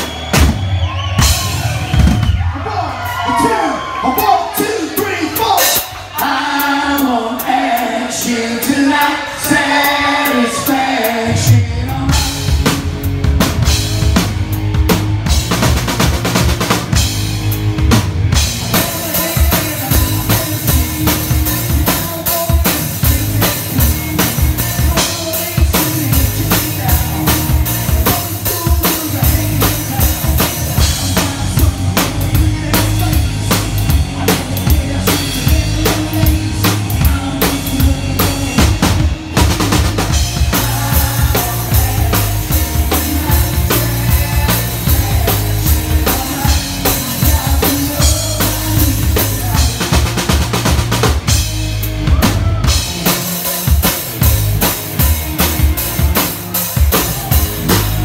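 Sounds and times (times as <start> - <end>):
band music: 0.0 - 58.0
rock drum kit: 0.0 - 58.0.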